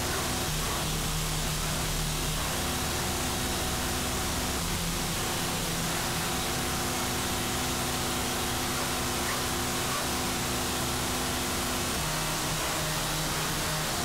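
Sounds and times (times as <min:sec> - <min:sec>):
static noise music: 0:00.0 - 0:14.0.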